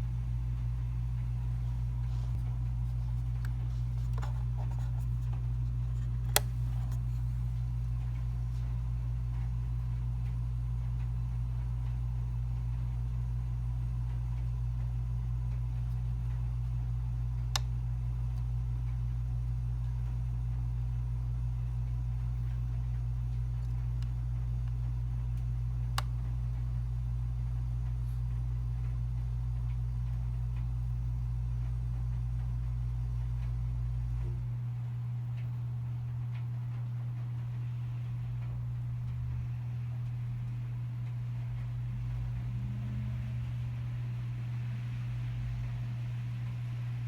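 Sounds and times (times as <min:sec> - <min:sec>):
device low hum: 0:00.0 - 0:47.0.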